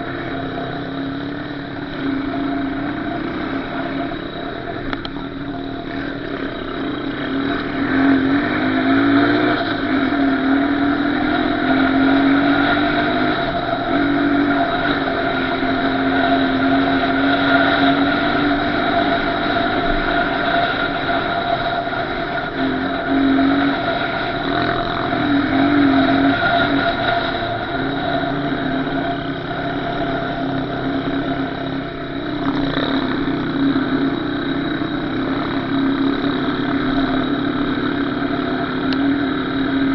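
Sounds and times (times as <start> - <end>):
small off-road engine running: 0.0 - 39.9.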